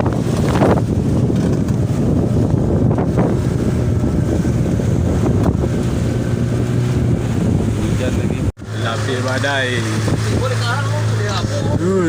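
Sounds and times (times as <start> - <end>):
boat engine humming: 0.0 - 12.0
wind buffeting microphone: 0.0 - 12.0.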